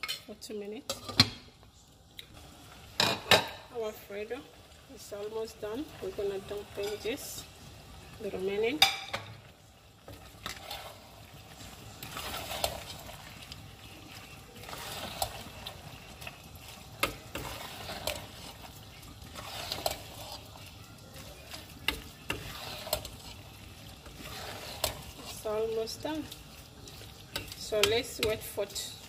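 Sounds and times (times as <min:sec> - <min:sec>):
sauce sizzling: 0:01.5 - 0:29.0
utensil scraping in a pan: 0:04.9 - 0:29.0.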